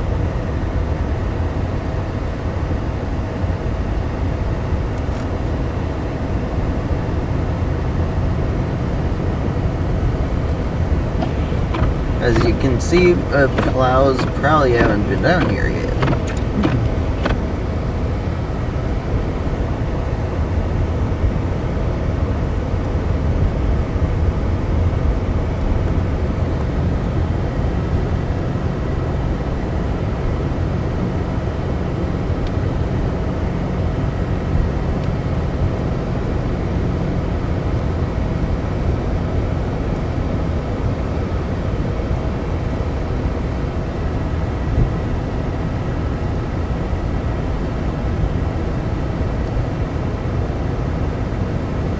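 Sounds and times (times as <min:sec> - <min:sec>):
car engine and tyre rumble on snow: 0:00.0 - 0:51.9.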